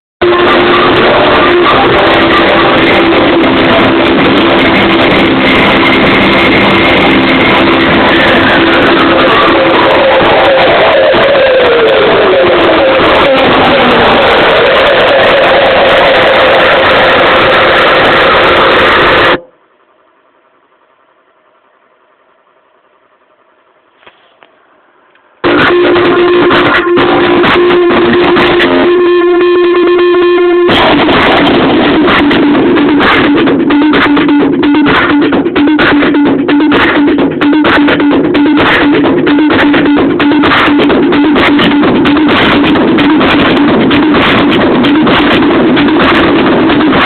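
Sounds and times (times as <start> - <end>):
loud music through car speakers: 0.2 - 19.5, 25.4 - 47.0
faint hum: 0.2 - 47.0.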